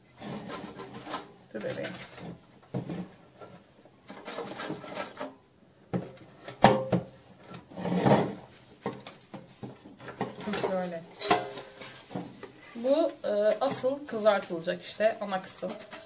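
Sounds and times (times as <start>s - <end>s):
basket scraping on wooden table: 0.2s - 5.4s, 7.5s - 14.6s, 15.3s - 16.0s.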